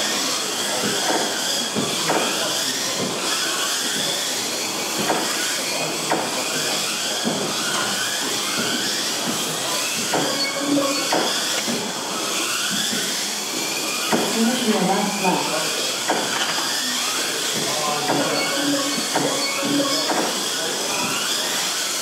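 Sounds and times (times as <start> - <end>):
small electric motors whining: 0.0 - 22.0.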